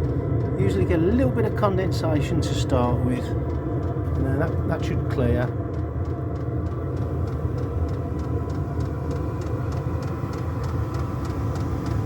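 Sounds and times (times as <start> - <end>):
fan motor hum: 0.0 - 12.0
fuel pump ticking: 0.0 - 12.0
heater burner roar: 0.0 - 12.0.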